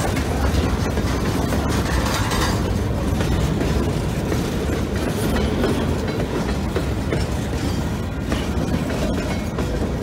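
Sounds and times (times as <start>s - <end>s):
steel wheels rumbling on rails: 0.0s - 10.0s
wheels clacking over rail joints: 0.0s - 10.0s.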